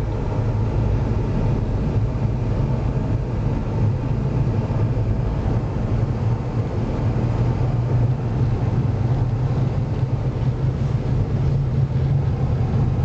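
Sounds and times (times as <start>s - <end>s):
car engine and tyres droning: 0.0s - 13.0s.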